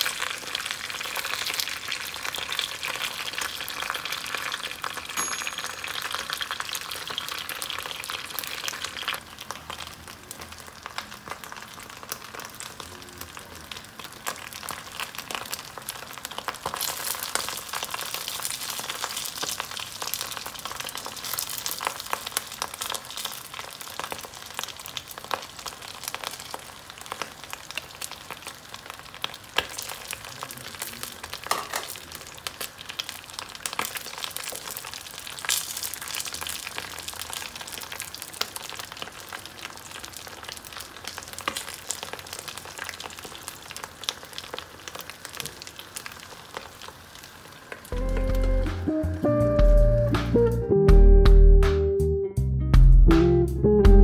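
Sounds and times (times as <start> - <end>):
food frying in hot oil: 0.0 - 48.6.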